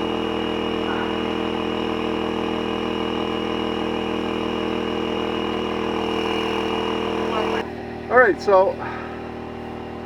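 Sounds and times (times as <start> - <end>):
air compressor motor humming: 0.0 - 10.0.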